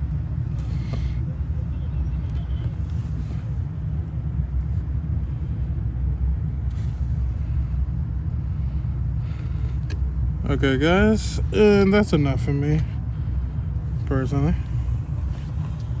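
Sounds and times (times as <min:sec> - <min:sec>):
cars rumbling nearby: 0:00.0 - 0:16.0.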